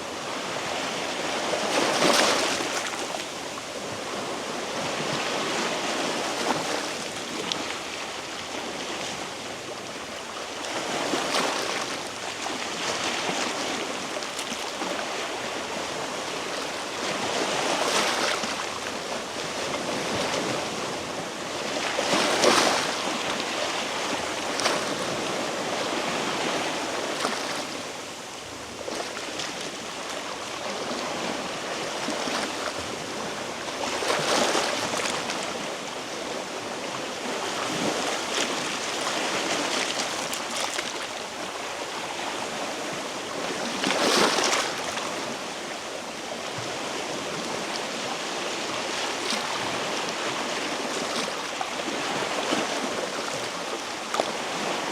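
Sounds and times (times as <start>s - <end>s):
sea waves on rocky shore: 0.0s - 54.9s.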